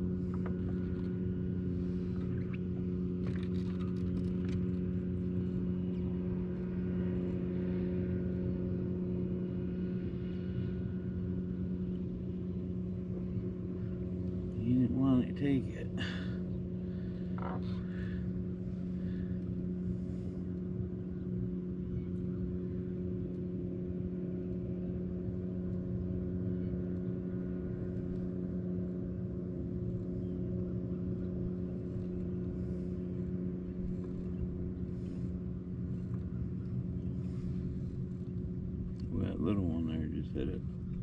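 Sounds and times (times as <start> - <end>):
boat motor humming: 0.0 - 41.0.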